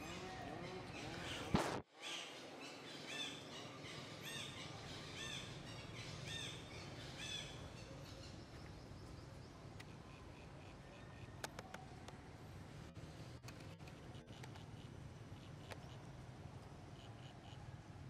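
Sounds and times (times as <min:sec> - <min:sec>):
forest background: 0:00.0 - 0:18.0.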